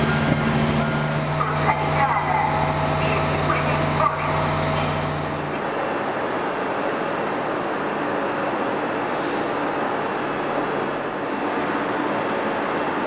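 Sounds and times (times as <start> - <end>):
electric train rushing noise: 0.0 - 13.0
train low hum: 0.0 - 13.0.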